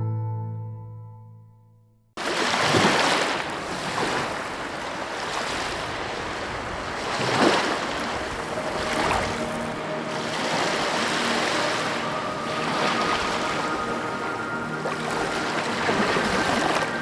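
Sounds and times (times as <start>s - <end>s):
sea waves washing onto beach: 2.2s - 17.0s.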